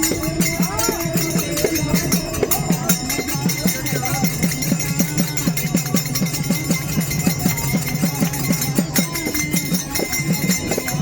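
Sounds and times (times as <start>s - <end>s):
hand percussion with jingling metal: 0.0s - 11.0s.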